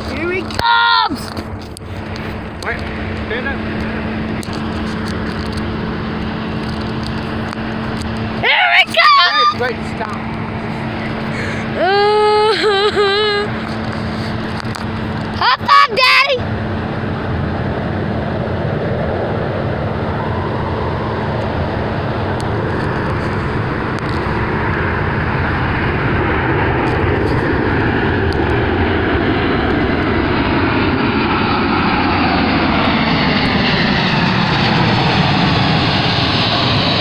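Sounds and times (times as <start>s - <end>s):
airplane engine drone: 0.0s - 37.0s.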